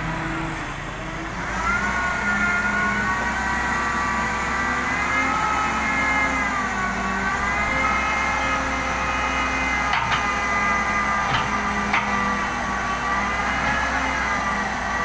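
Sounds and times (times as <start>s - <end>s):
heavy vehicle engine under load: 0.0s - 15.0s.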